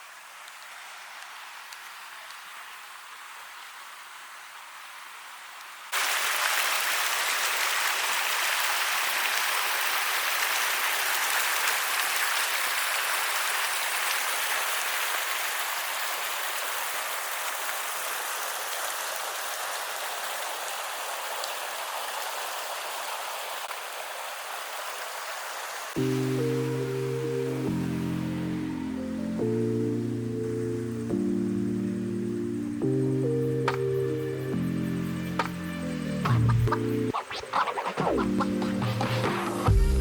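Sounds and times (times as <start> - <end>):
flowing river water: 0.0 - 32.6.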